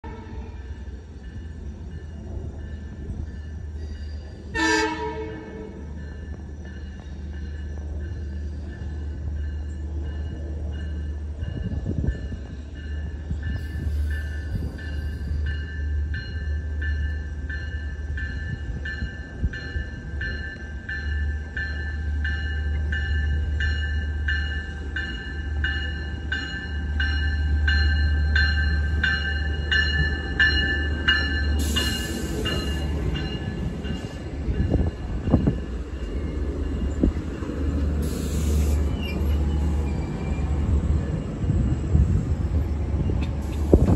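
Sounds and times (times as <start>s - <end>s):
train bell clanging: 0.0s - 41.8s
train cars rumbling past: 0.0s - 43.9s.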